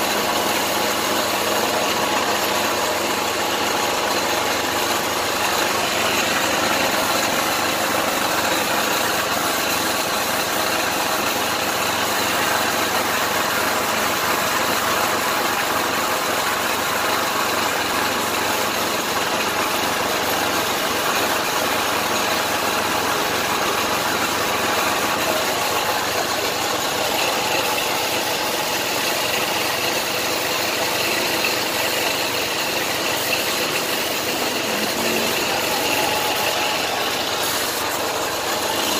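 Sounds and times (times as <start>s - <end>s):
paint spray gun hissing: 0.0s - 15.0s, 17.9s - 38.9s
air compressor running: 0.0s - 38.9s.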